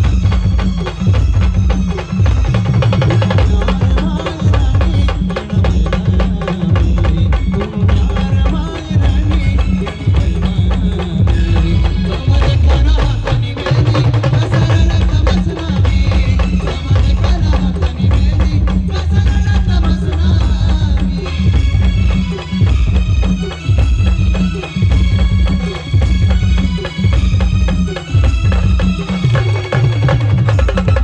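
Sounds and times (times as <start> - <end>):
heavy drums pounding: 0.0 - 31.0.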